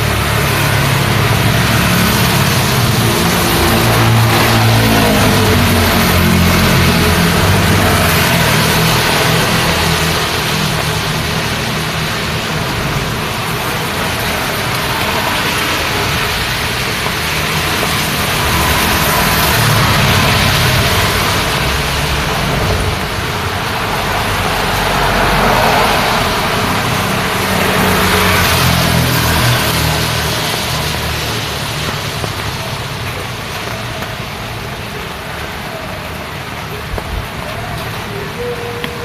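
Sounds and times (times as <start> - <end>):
steady rain: 0.0 - 39.0
vehicles passing on wet road: 0.0 - 39.0.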